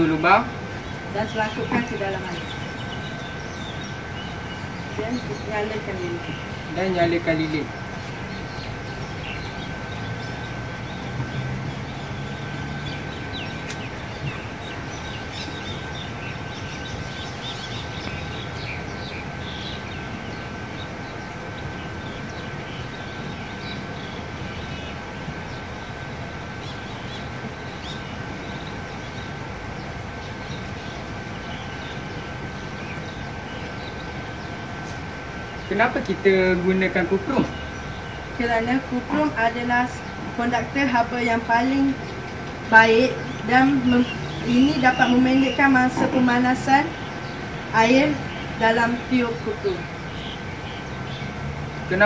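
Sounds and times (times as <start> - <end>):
outdoor background hum: 0.0 - 52.0.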